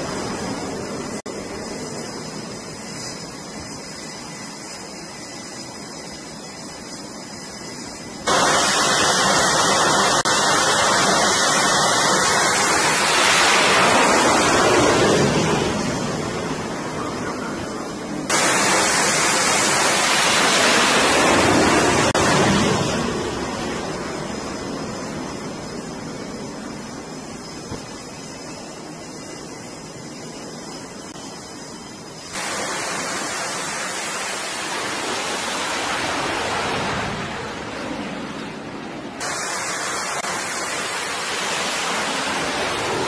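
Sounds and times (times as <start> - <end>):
jet engine roar: 0.0 - 43.0
steady hiss: 0.0 - 43.0.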